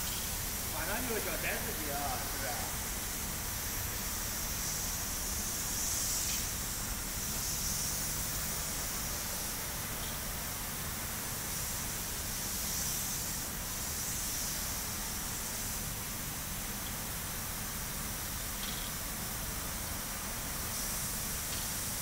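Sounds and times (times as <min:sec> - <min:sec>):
spray gun hissing: 0:00.0 - 0:22.0.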